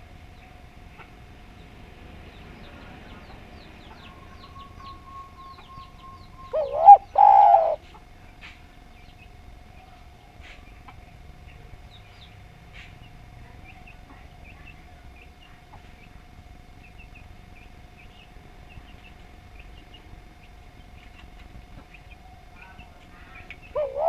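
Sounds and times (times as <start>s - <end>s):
background hum and low rumble: 0.0s - 24.0s
small birds chirping: 0.0s - 24.0s.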